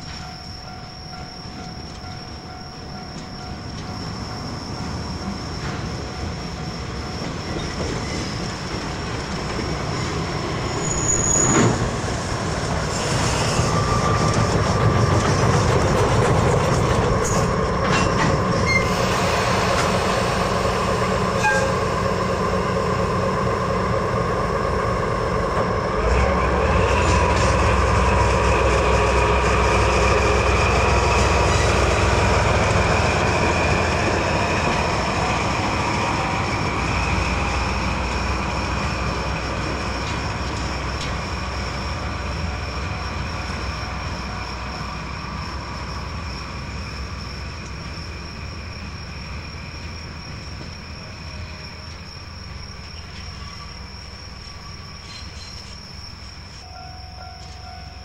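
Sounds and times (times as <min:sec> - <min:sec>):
diesel locomotive running: 0:00.0 - 0:58.0
squealing train wheels: 0:00.0 - 0:58.0.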